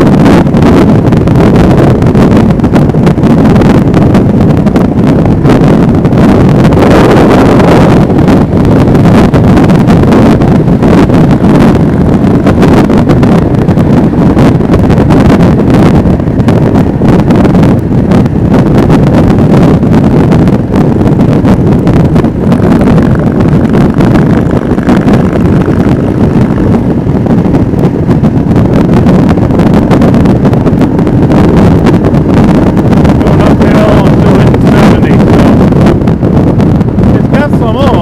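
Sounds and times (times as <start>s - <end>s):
motorcycle engine at speed: 0.0s - 38.0s
wind noise on microphone: 0.0s - 38.0s.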